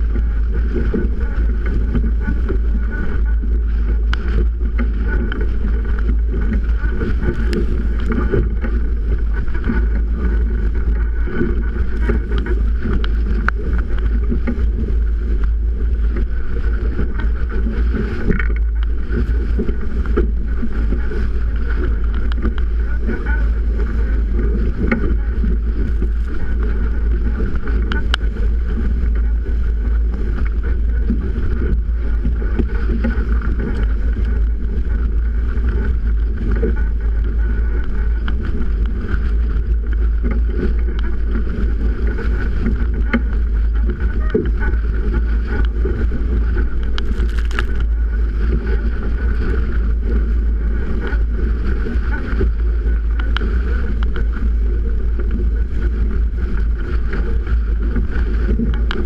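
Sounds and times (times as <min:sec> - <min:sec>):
water rushing along hull: 0:00.0 - 0:59.0
wind rumbling on microphone: 0:00.0 - 0:59.0.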